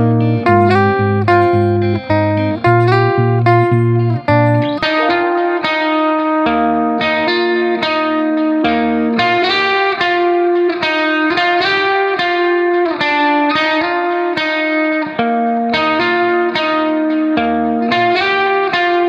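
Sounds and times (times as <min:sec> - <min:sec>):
plucked melody music: 0:00.0 - 0:19.0.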